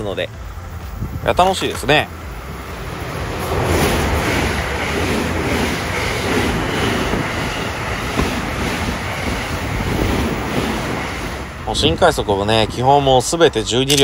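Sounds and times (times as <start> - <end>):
electric train passing: 0.0 - 13.9
wind noise on microphone: 0.4 - 2.0, 3.0 - 13.2.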